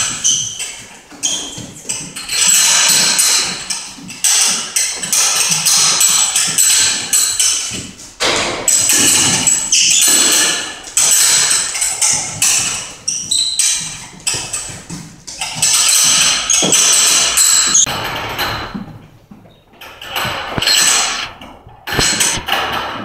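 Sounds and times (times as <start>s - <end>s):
battle ropes slapping floor: 0.0s - 23.0s.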